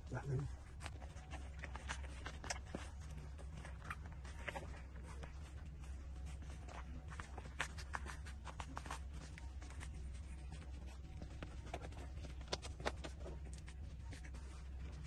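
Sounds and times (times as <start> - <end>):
low steady hum: 0.0 - 15.0
puppies suckling clicks: 0.7 - 15.0.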